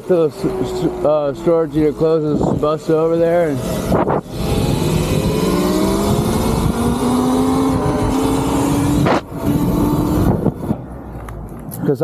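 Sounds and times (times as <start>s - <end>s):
electric motorbike motor whining: 0.0s - 10.8s.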